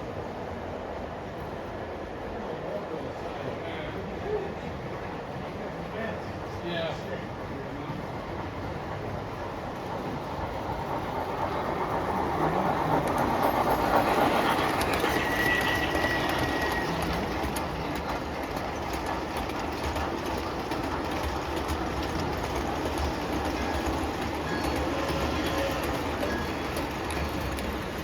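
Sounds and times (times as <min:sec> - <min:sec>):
toy train rumbling on track: 0:03.1 - 0:28.0
rail clicking: 0:05.1 - 0:28.0.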